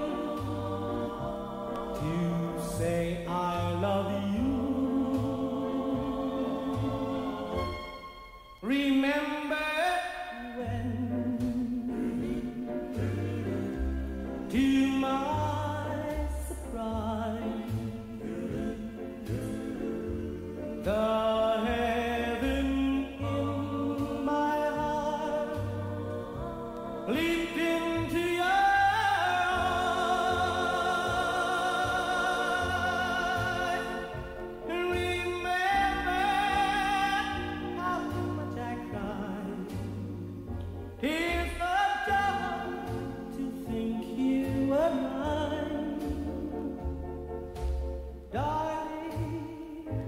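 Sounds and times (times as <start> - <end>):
slow song with held sung notes: 0.0 - 50.0.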